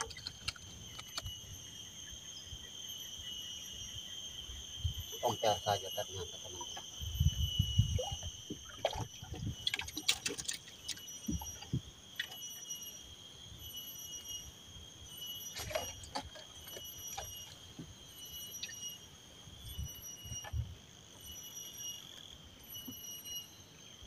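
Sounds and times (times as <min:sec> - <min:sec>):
insects singing: 0:00.0 - 0:24.0.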